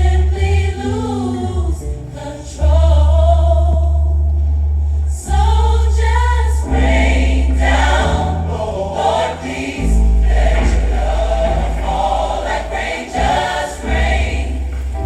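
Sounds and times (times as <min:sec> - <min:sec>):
gospel choir singing: 0:00.0 - 0:04.5, 0:05.1 - 0:15.0
deep sustained bass notes: 0:00.0 - 0:15.0.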